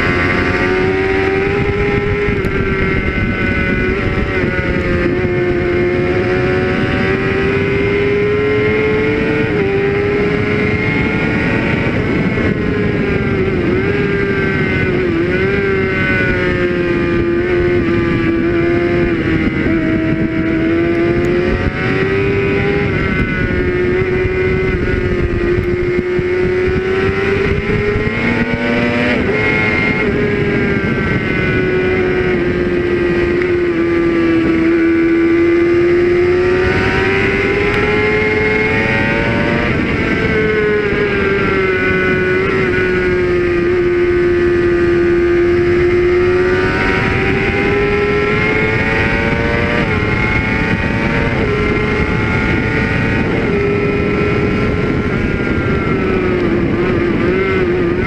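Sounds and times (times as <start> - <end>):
motorcycle engine running hard: 0.0 - 58.0
wind rush: 0.0 - 58.0.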